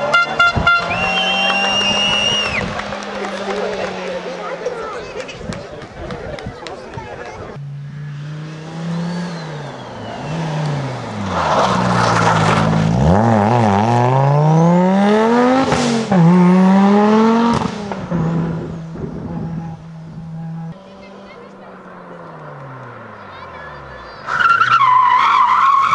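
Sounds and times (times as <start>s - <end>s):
rally car engine accelerating: 0.0s - 5.4s, 7.5s - 25.9s.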